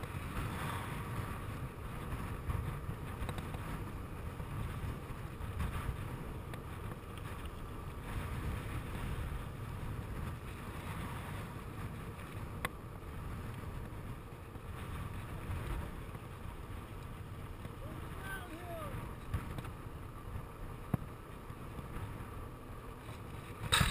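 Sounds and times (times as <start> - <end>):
wind buffeting microphone: 0.0 - 22.6, 23.2 - 23.9
tyres on asphalt: 0.0 - 23.9.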